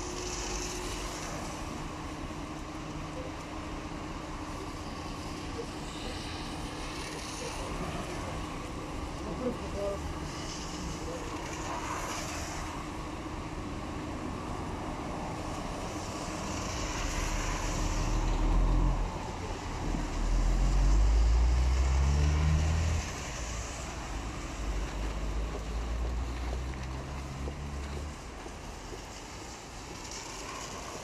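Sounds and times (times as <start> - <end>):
tyres swishing on wet road: 0.0 - 31.0
vehicle engines rumbling: 0.0 - 31.0.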